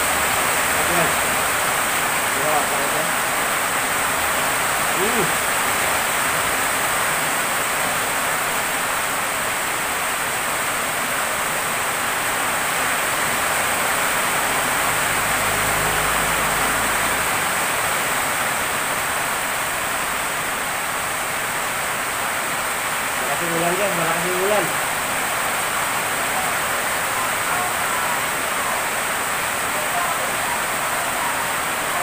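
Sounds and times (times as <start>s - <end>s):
steady rushing hiss: 0.0s - 32.0s.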